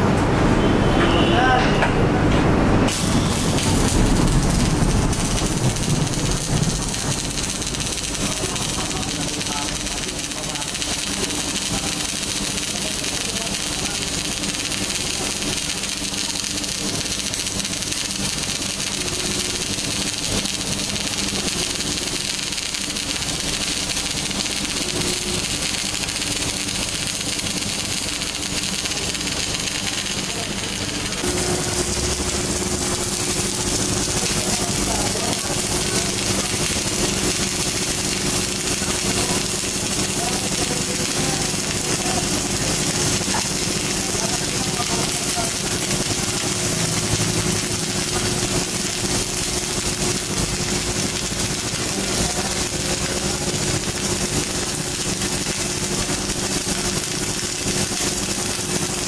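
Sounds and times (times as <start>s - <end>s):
steady low hum: 2.0s - 56.6s
welding arc crackling and hissing: 2.9s - 59.0s.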